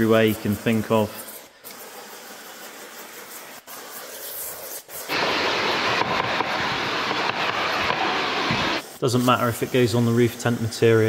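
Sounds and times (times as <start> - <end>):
pressure sprayer hissing: 0.0 - 11.0.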